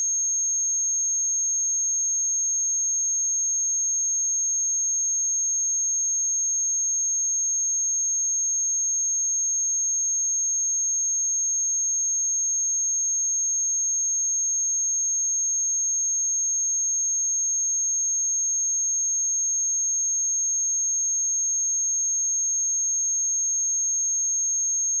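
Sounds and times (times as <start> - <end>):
high-pitched sine-wave test tone: 0.0 - 25.0.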